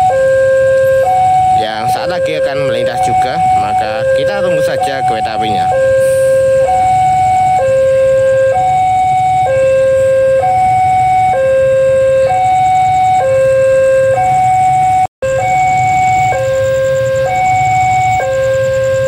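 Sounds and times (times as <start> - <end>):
level crossing two-tone alarm: 0.0 - 19.0.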